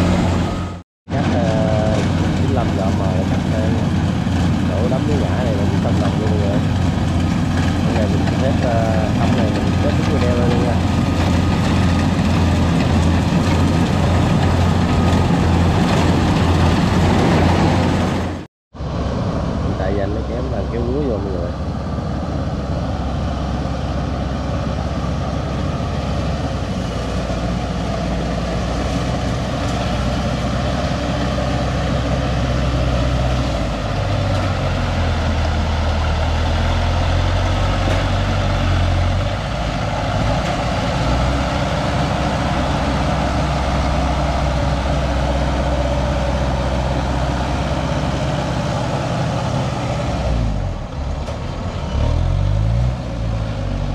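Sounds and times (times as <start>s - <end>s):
tracked vehicle engine running: 0.0s - 53.9s.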